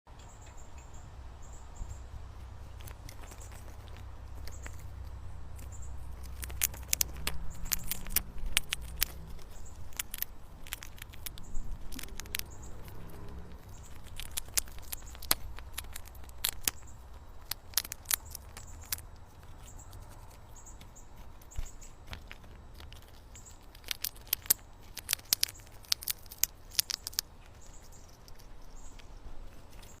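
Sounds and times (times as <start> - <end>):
squirrel chirping: 0.2 - 30.0
steady low rumble: 0.6 - 30.0.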